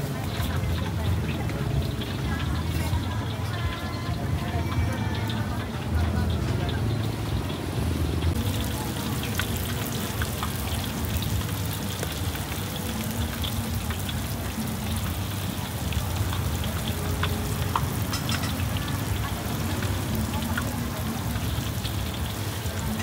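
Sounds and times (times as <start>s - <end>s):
onion rings deep-frying in oil: 0.0s - 23.0s.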